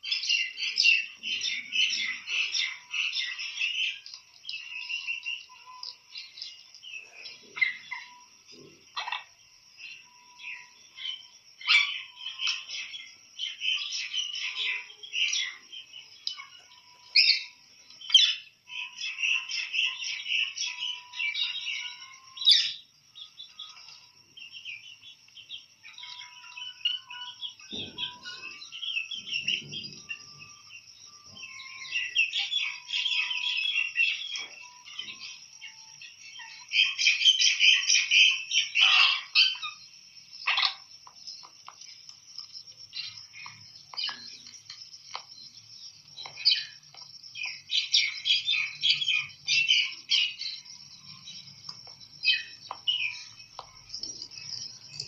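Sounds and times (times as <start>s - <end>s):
birds chirping and twittering: 0.0s - 55.0s.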